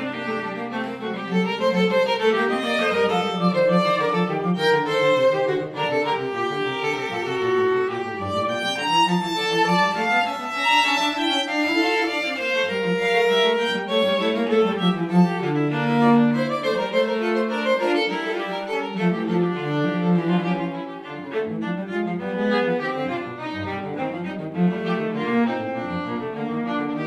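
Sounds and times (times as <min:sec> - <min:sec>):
string trio playing: 0:00.0 - 0:27.0.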